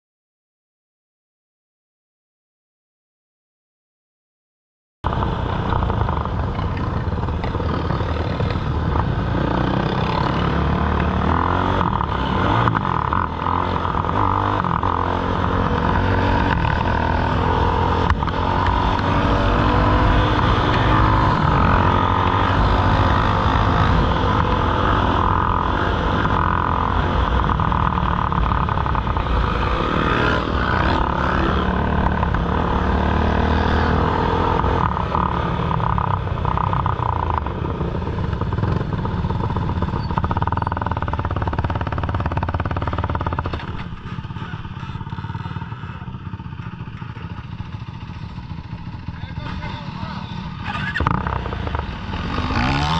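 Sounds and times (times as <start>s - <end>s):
quad bike engine running: 5.1s - 52.9s.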